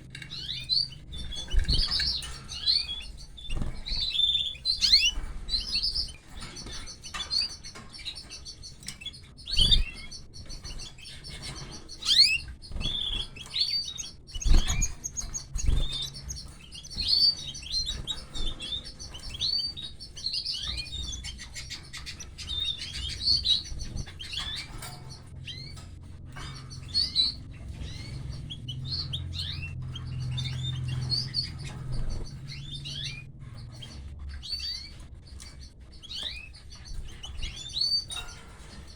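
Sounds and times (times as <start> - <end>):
canaries chirping: 0.0 - 38.9.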